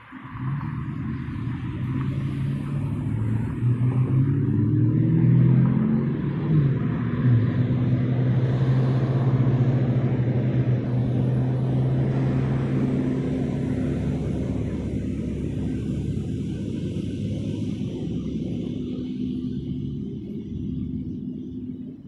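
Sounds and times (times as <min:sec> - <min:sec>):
vehicle engine humming: 0:00.0 - 0:22.0
low rumble: 0:00.1 - 0:22.0.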